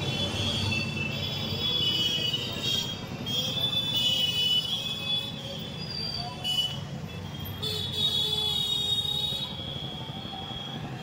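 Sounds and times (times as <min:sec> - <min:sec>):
busy street traffic: 0:00.0 - 0:11.0.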